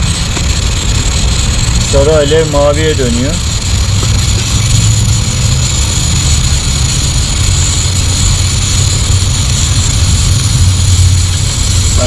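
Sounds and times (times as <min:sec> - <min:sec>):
camping stove burning: 0:00.0 - 0:12.0.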